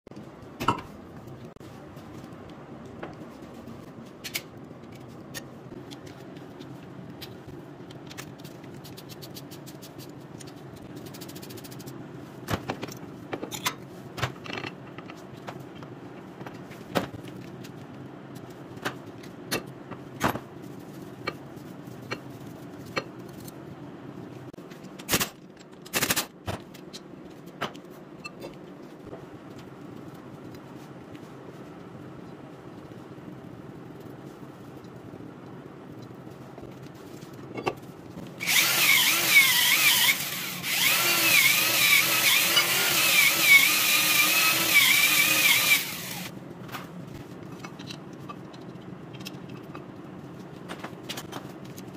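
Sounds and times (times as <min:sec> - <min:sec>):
steady background hum: 0:00.1 - 0:51.9.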